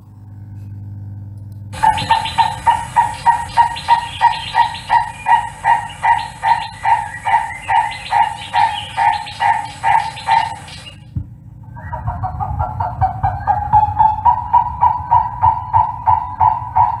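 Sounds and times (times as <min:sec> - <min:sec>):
bird calling repeated notes: 0:01.8 - 0:17.0.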